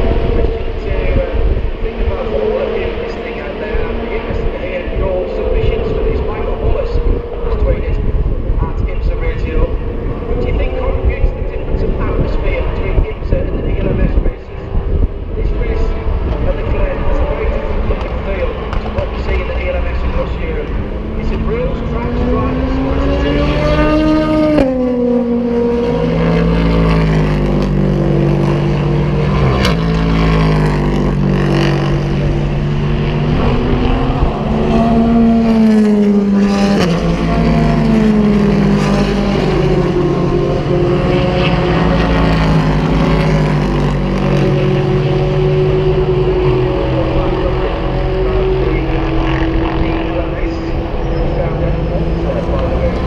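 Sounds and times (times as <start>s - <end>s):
race cars accelerating past: 0.0s - 53.0s.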